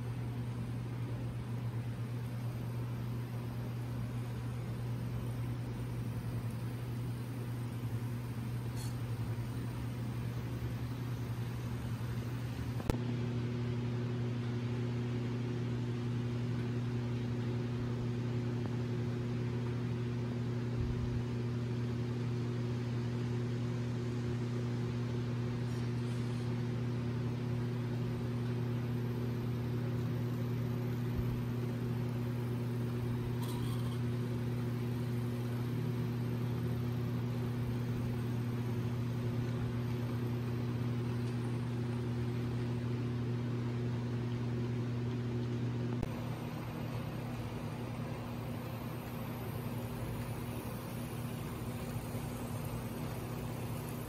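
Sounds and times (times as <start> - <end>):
model train electric hum: 0.0 - 12.9, 23.6 - 54.0.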